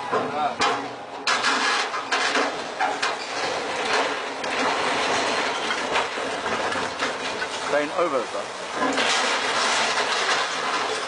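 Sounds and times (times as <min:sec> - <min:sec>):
boat dropping into water: 0:00.0 - 0:11.0
loud metal crashes and bangs: 0:00.0 - 0:11.0.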